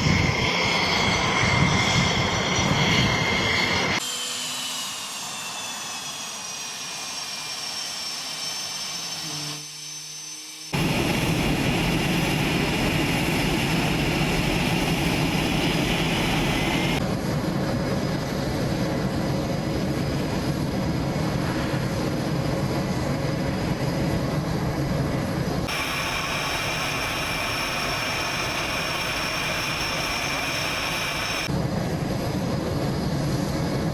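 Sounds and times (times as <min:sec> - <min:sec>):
jet engine noise: 0:00.0 - 0:33.9.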